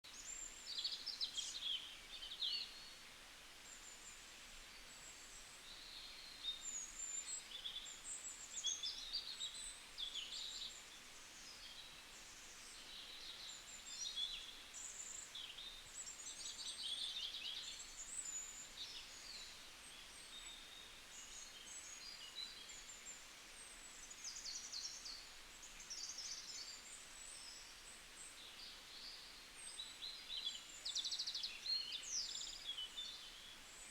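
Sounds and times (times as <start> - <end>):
faint outdoor hiss: 0.0 - 33.9
small birds singing and chirping: 0.1 - 3.0, 4.8 - 33.9.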